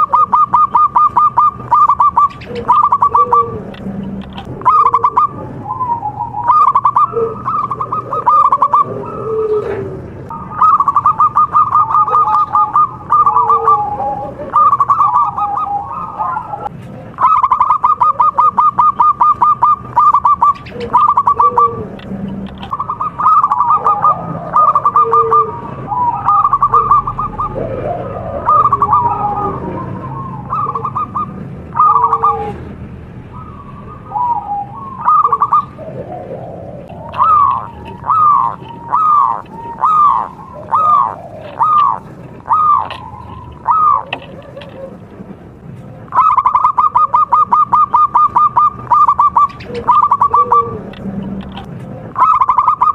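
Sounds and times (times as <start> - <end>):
doves cooing and trilling: 0.0 - 52.9.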